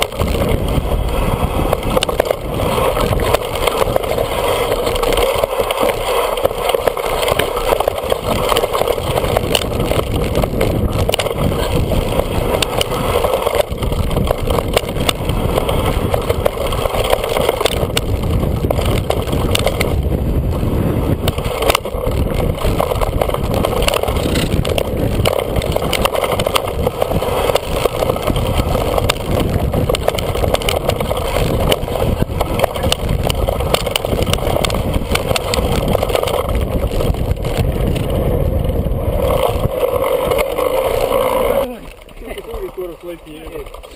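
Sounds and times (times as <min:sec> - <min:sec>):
bike rattling over bumps: 0:00.0 - 0:43.9
bike tyres on dirt trail: 0:00.0 - 0:43.9.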